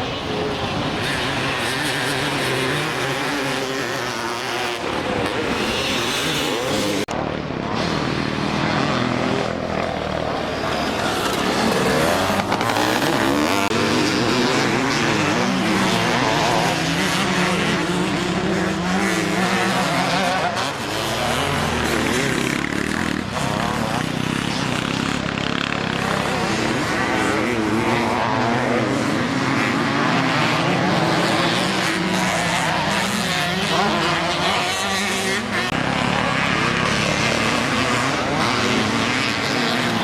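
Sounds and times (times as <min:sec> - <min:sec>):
motocross motorcycles revving: 0:00.0 - 0:40.0.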